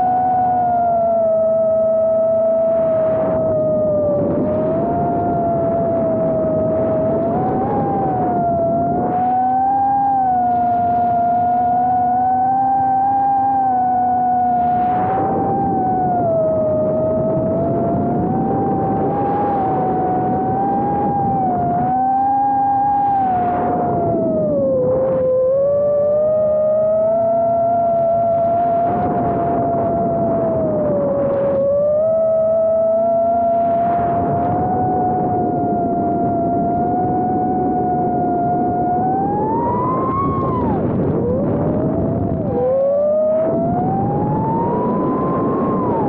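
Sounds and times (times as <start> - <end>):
quadcopter motors whining: 0.0 - 46.0
rush of wind: 0.0 - 46.0.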